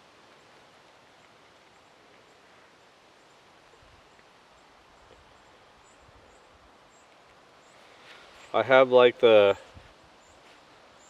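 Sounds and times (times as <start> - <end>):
soft even hiss: 0.0 - 11.0.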